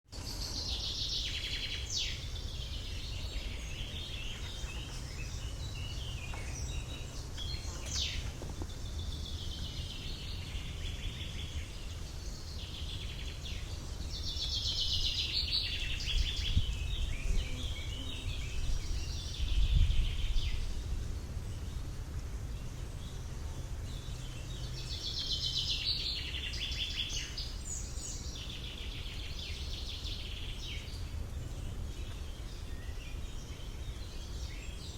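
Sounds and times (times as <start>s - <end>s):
birds singing and chirping: 0.2s - 34.9s.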